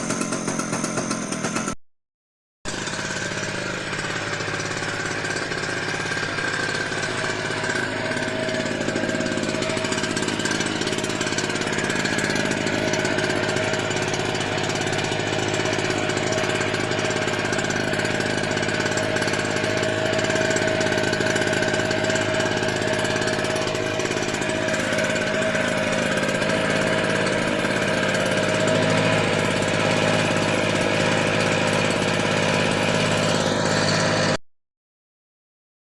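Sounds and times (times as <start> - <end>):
portable generator engine running: 0.0 - 1.8, 2.7 - 34.4.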